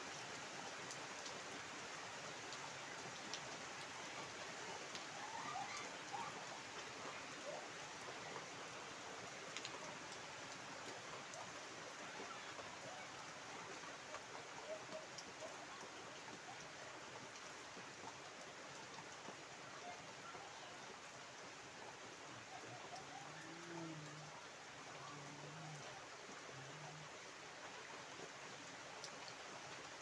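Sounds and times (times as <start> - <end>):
heavy rain splashing into water: 0.0 - 30.0.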